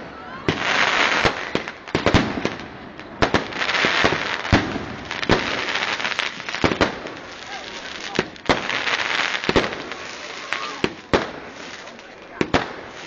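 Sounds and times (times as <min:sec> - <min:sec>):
fireworks bangs and cracks: 0:00.0 - 0:13.0
fireworks hissing: 0:00.5 - 0:13.0.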